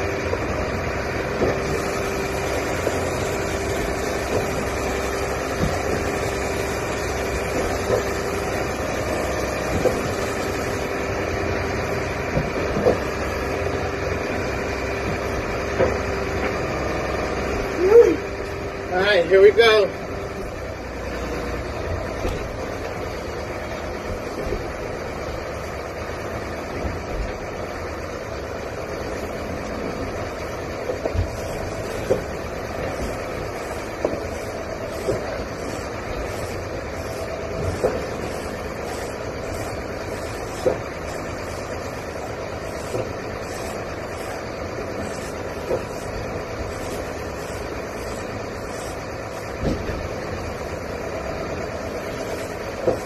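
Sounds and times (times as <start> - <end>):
boat engine rumble: 0.0 - 53.0
wind: 0.0 - 53.0.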